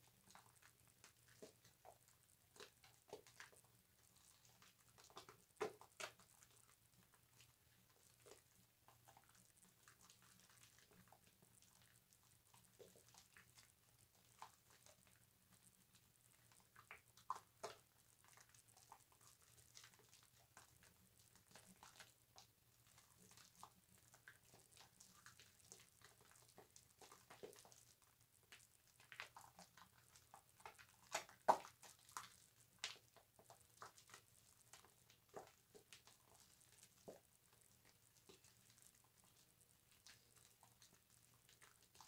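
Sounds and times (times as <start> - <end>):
soap lather squishing: 0.0 - 42.0
wet squelches: 0.0 - 42.0.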